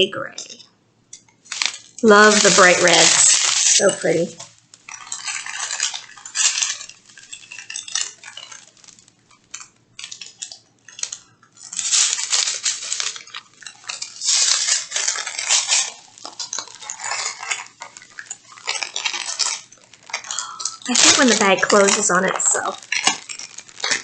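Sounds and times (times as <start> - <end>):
beads rattling and clinking: 1.4 - 24.0
plastic bags crinkling: 1.4 - 24.0.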